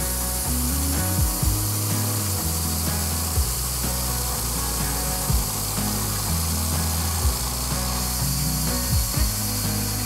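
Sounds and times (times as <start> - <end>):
band blade sawing hiss: 0.0 - 10.0
sawmill engine under load: 0.0 - 10.0.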